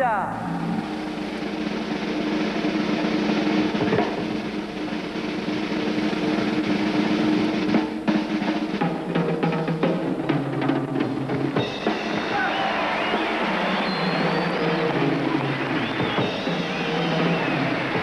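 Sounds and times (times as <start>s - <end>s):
snare drum roll: 0.6s - 18.0s.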